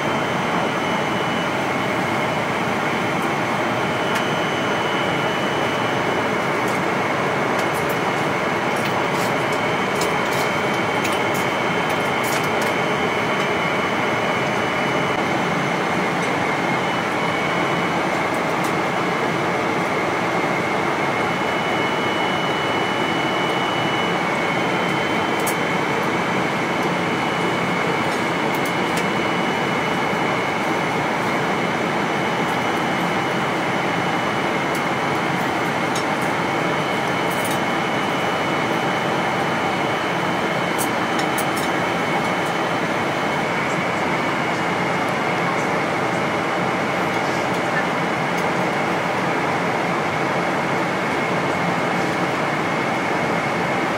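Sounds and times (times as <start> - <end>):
airliner cabin noise: 0.0 - 53.9.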